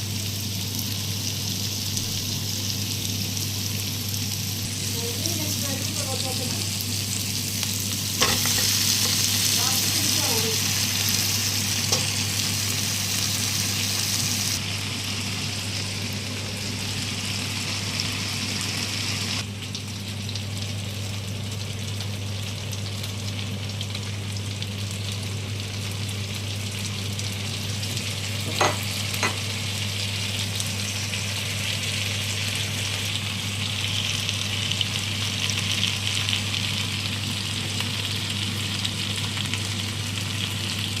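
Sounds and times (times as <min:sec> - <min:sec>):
chicken sizzling in a pan: 0:00.0 - 0:41.0.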